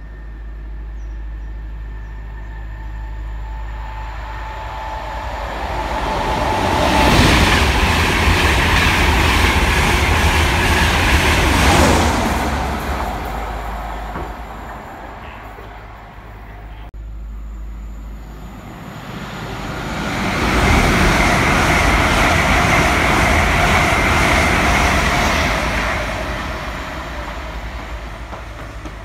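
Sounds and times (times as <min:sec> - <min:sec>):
train passing at speed: 0:00.0 - 0:16.9, 0:17.8 - 0:29.0.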